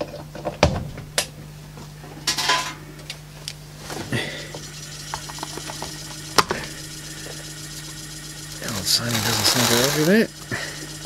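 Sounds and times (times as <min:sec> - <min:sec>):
steady low hum: 0:00.9 - 0:11.0.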